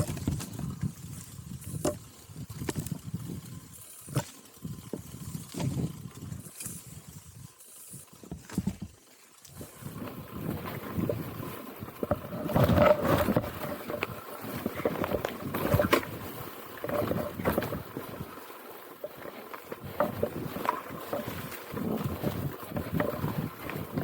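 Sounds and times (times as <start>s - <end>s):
wind noise on microphone: 0.0s - 18.4s, 19.1s - 24.0s.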